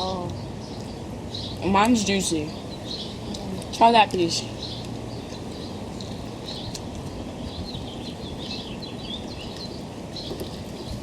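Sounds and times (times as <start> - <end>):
birds chirping: 0.0 - 11.0
low outdoor rush: 0.0 - 11.0.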